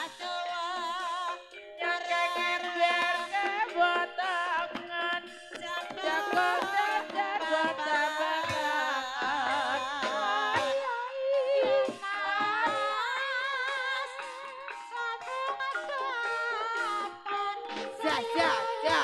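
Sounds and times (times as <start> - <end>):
drum strokes: 0.0 - 19.0.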